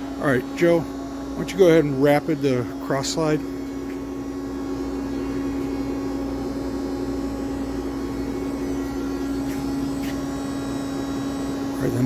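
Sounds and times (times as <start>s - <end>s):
lathe humming: 0.0s - 12.0s
low mechanical noise: 0.0s - 12.0s.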